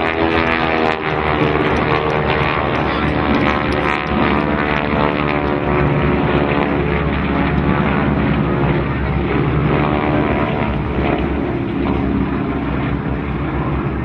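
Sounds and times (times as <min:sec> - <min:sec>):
propeller aircraft engines: 0:00.0 - 0:14.0.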